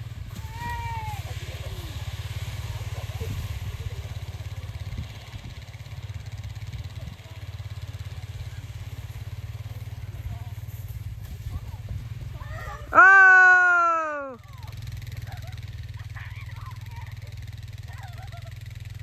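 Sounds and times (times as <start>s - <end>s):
off-road vehicle engine pulsing: 0.0s - 19.0s.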